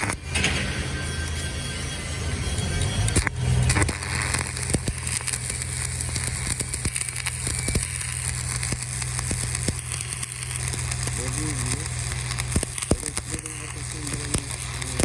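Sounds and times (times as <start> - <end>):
steady low hum: 0.0 - 15.0
welding arc crackling: 0.0 - 15.0.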